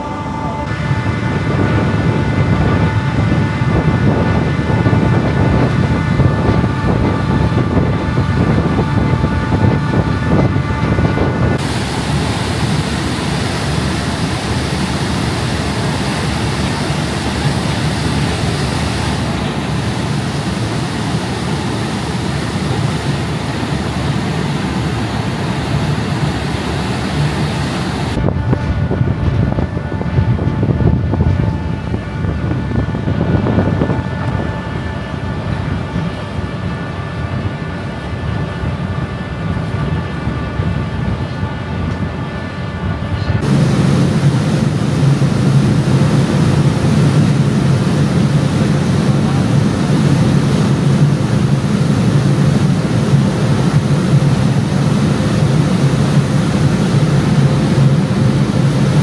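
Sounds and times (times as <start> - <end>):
ferry engines droning: 0.0 - 59.0
rushing hiss of wake and wind: 0.0 - 59.0.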